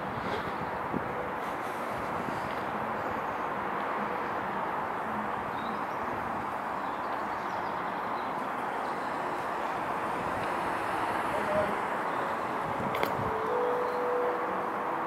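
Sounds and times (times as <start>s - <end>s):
traffic hum: 0.0s - 15.0s.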